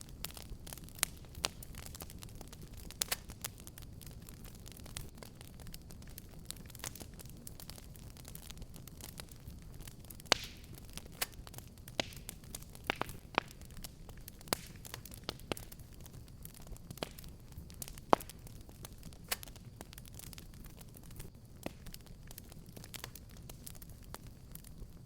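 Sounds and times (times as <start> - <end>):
low rumble of burning: 0.0 - 25.0
wood fire crackling and popping: 0.0 - 25.0.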